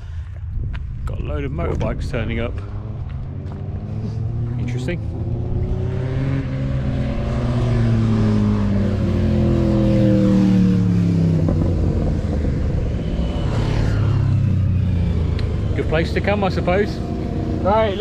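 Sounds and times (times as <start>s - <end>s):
motorcycles riding past: 2.6s - 18.0s.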